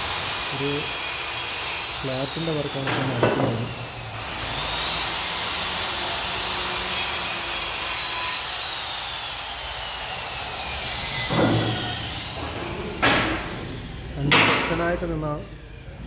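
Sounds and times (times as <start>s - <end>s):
power tool whining: 0.0s - 16.0s.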